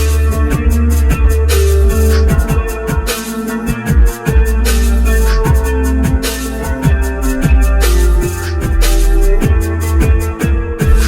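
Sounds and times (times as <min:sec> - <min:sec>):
music with bass guitar and drums: 0:00.0 - 0:11.0.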